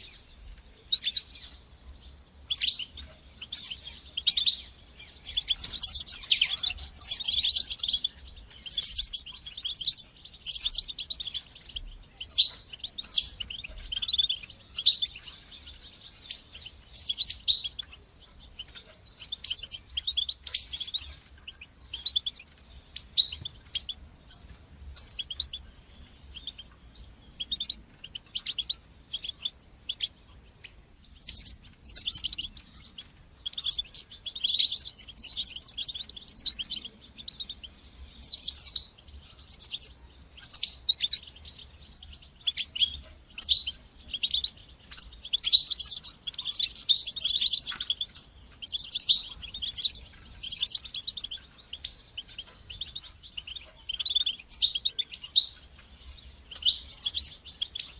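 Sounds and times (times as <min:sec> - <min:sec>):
goldfinch twittering song: 0:00.0 - 0:57.9.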